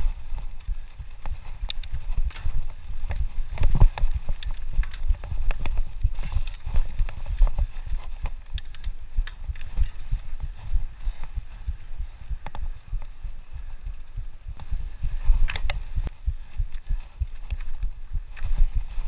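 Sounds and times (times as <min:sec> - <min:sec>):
bike clicks and rattles: 0:00.0 - 0:19.0
wind on microphone: 0:00.0 - 0:19.0.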